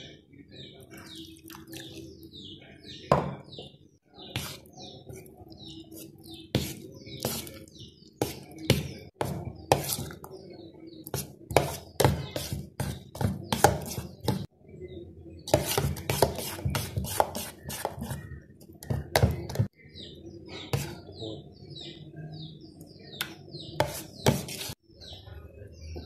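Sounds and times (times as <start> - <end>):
spoon stirring batter in steel bowl: 0.0 - 21.2, 21.9 - 26.0
faint birds chirping: 0.0 - 26.0.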